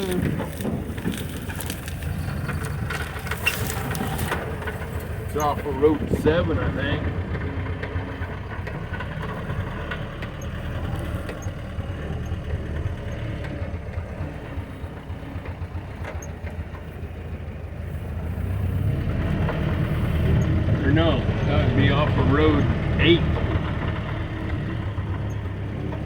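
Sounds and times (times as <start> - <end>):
engine rumbling inside a cab: 0.0 - 26.0.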